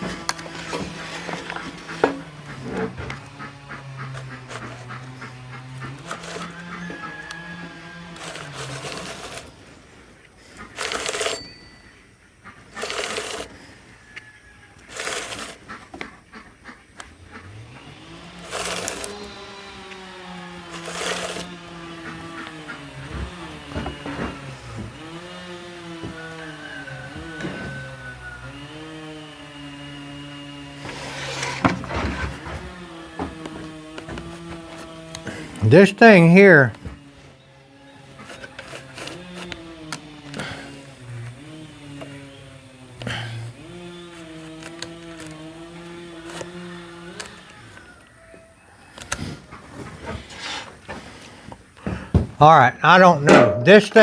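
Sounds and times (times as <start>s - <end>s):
chainsaw starter cord pulls: 0.0s - 48.2s, 48.9s - 51.8s, 52.4s - 54.0s
chainsaw engine labouring: 0.0s - 54.0s.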